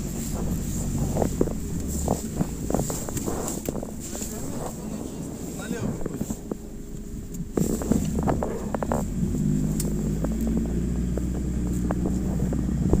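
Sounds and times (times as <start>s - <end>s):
off-road vehicle engine: 0.0s - 13.0s
vehicle body rattling: 0.0s - 13.0s.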